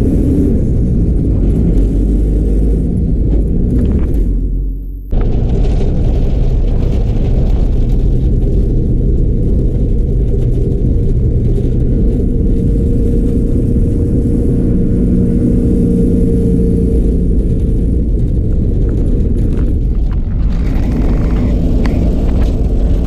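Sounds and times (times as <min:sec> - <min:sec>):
bus engine and road rumble: 0:00.0 - 0:23.0.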